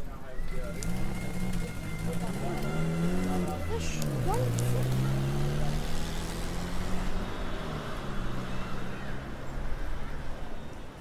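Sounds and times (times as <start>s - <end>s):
bus engine humming: 0.0s - 9.7s
street noise: 0.0s - 11.0s.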